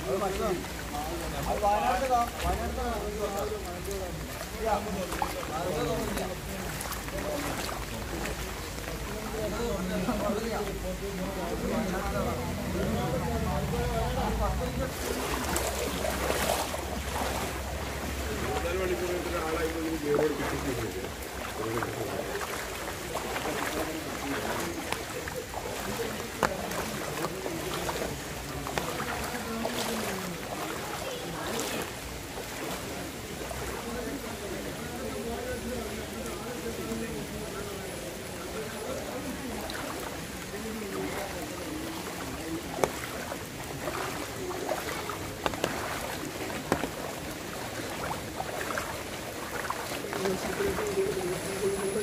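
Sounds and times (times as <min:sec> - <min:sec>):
faint voices: 0:00.0 - 0:52.0
sharp splashes: 0:00.0 - 0:52.0
wading through floodwater: 0:00.0 - 0:52.0.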